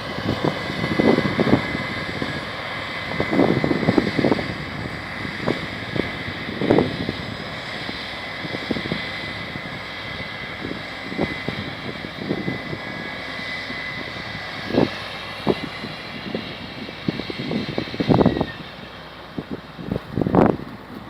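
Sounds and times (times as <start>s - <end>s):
combine harvester drone and whine: 0.0s - 21.0s.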